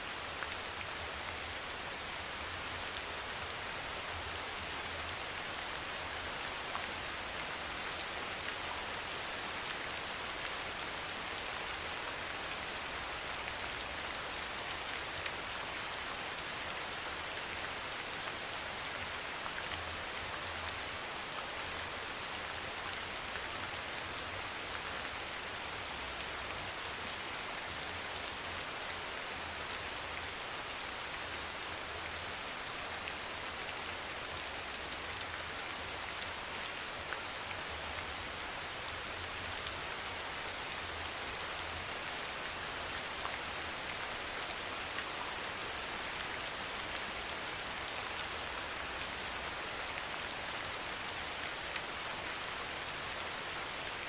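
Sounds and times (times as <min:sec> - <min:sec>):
soft rain falling: 0:00.0 - 0:54.0.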